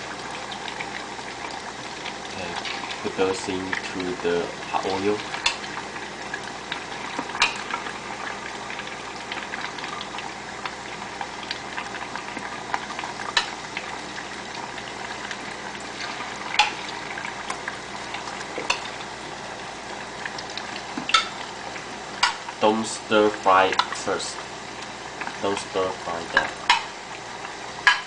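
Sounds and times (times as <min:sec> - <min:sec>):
chicken deep-frying in oil: 0:00.0 - 0:28.0
oil popping: 0:00.1 - 0:22.7.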